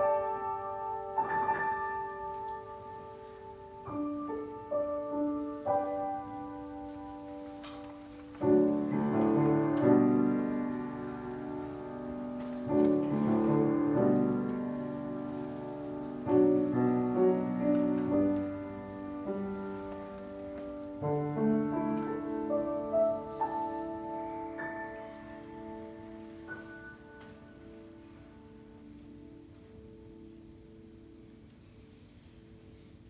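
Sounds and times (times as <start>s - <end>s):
solo piano playing slowly: 0.0s - 33.0s.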